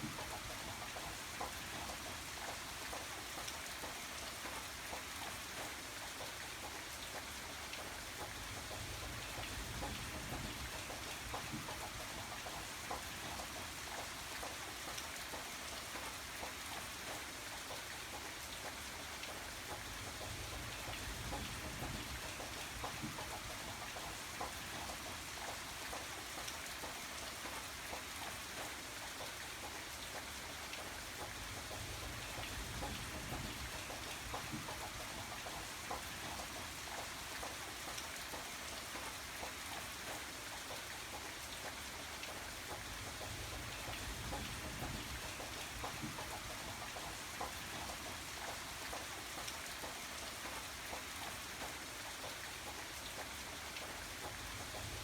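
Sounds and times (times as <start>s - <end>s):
rain falling: 0.0s - 55.0s
raindrops ticking on a surface: 0.0s - 55.0s.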